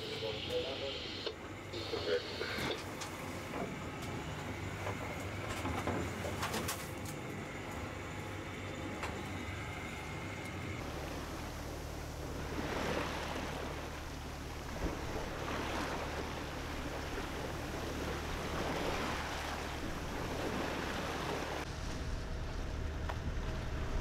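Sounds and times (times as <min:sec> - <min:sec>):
boat engine hum: 0:00.0 - 0:24.0
water splashing along hull: 0:00.0 - 0:24.0.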